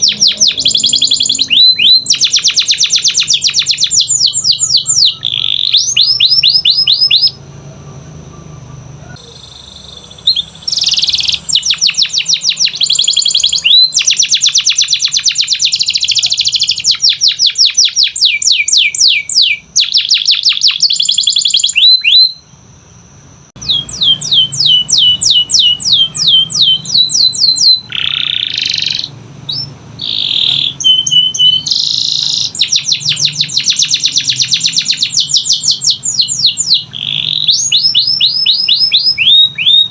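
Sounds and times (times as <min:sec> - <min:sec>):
canary singing in fast trills: 0:00.0 - 0:39.9.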